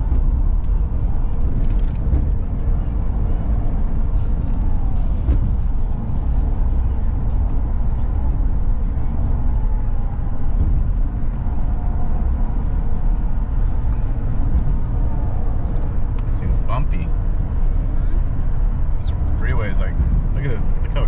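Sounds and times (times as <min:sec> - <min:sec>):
tyre and wind noise in car: 0:00.0 - 0:21.0.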